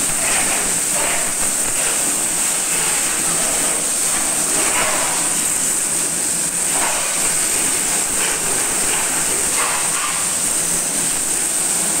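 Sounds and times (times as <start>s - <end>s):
pressure washer water jet hissing: 0.0s - 12.0s.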